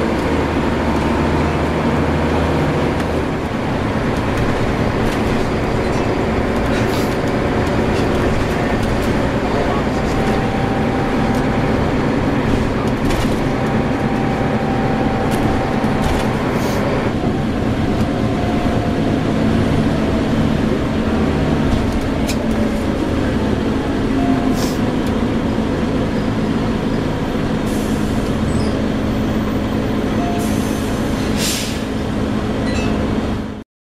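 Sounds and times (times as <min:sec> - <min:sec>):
bus engine running: 0:00.0 - 0:33.6
road noise: 0:00.0 - 0:33.6.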